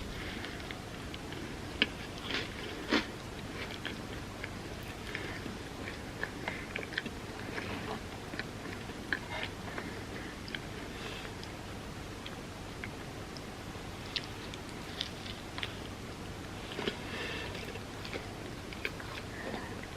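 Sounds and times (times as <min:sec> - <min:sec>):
person chewing food: 0:00.0 - 0:19.9.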